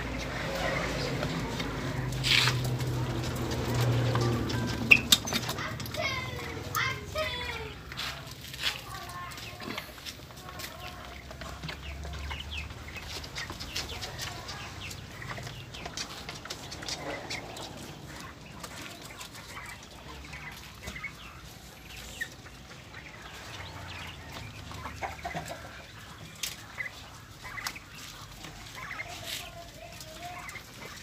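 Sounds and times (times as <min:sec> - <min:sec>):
chicks and quails cheeping: 0:00.0 - 0:31.0.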